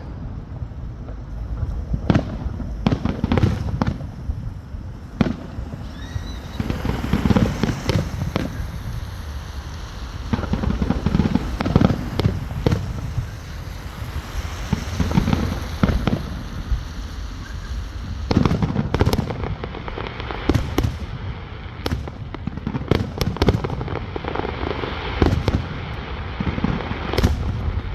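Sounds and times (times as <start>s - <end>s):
fireworks bangs and cracks: 0.0s - 27.9s.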